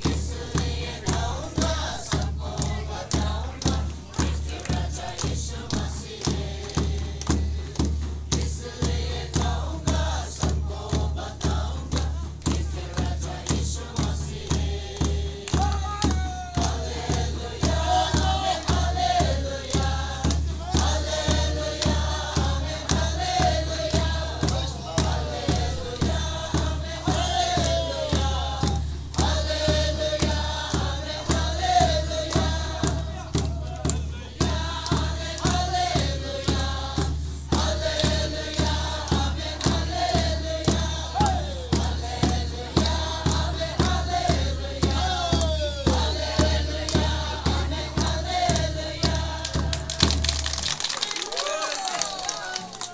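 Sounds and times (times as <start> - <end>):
bass drum beating: 0.0 - 50.6
crowd singing a gospel song: 0.0 - 50.7
hand clapping: 0.0 - 52.9.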